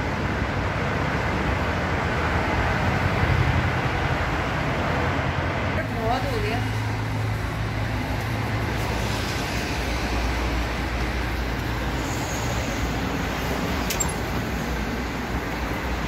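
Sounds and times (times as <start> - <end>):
passing cars traffic noise: 0.0 - 16.0.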